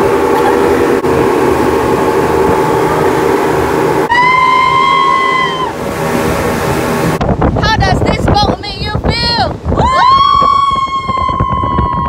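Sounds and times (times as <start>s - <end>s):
rushing water: 0.0s - 10.6s
boat engine running: 0.0s - 12.0s
wind: 0.0s - 12.0s.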